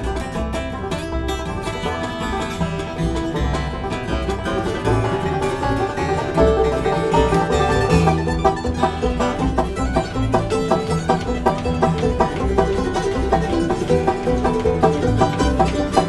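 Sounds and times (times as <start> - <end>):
bluegrass string band playing: 0.0 - 16.0
picked banjo: 0.0 - 16.0
upright bass: 0.0 - 16.0.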